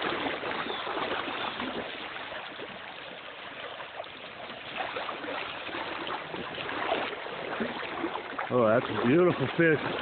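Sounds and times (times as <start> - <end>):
river water rushing over gravel: 0.0 - 10.0.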